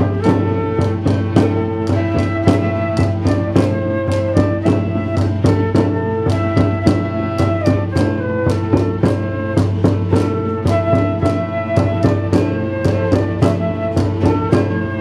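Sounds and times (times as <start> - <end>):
drum beating: 0.0 - 15.0
early music ensemble tune: 0.0 - 15.0.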